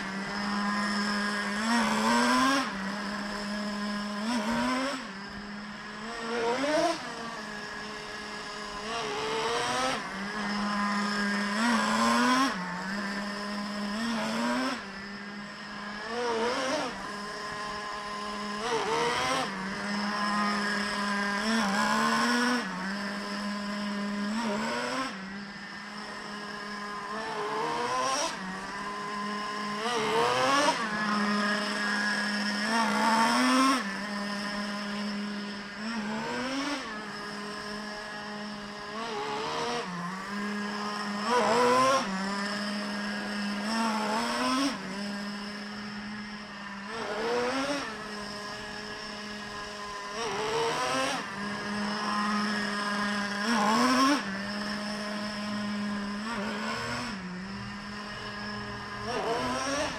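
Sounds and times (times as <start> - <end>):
small engine idling with throttle blips: 0.0 - 59.9.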